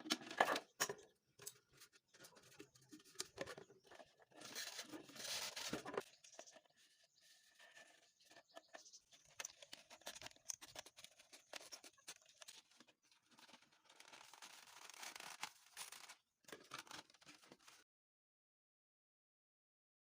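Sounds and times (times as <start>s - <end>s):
plastic bottle scraping and crackling: 0.0s - 17.8s.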